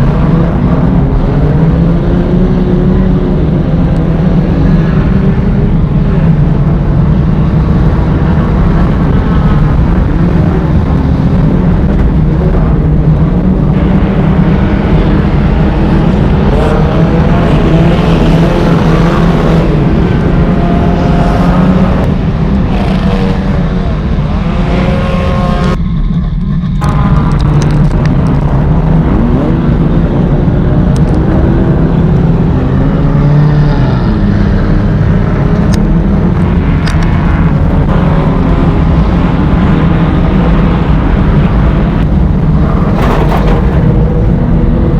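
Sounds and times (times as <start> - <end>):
race car engine accelerating: 0.0 - 44.9
road and drivetrain drone: 0.0 - 44.9.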